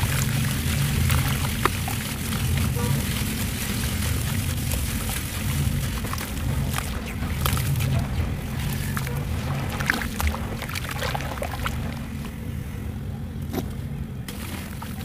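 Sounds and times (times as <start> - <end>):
lumps crushed in water by hand: 0.0 - 12.3
small water splashes: 0.0 - 12.3, 14.3 - 15.0
crumbling crackles: 0.0 - 12.5
steady low hum: 0.0 - 15.0.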